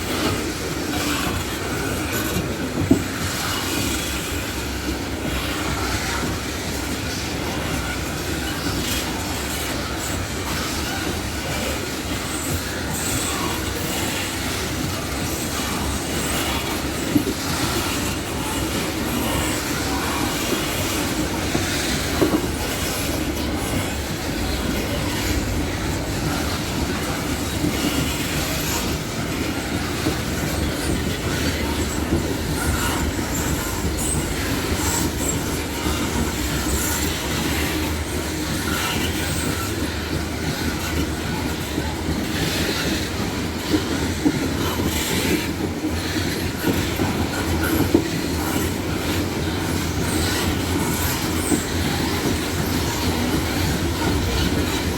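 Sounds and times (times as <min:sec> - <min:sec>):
wheel-on-rail rumble: 0:00.0 - 0:54.9.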